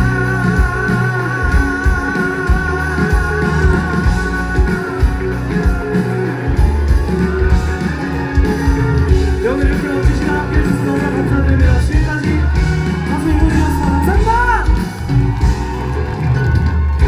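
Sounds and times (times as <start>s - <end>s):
loud live band: 0.0s - 17.0s.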